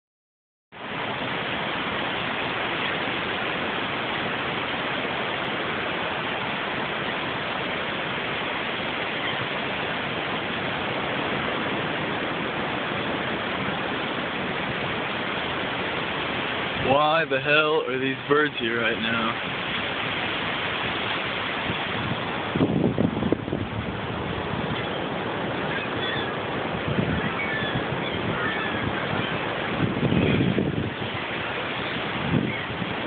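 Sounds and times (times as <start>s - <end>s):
ocean surf roaring: 0.8s - 33.0s.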